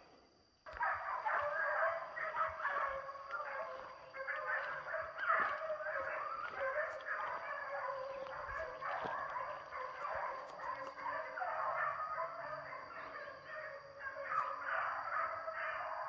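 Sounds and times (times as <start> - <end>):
hounds baying: 0.7 - 16.0.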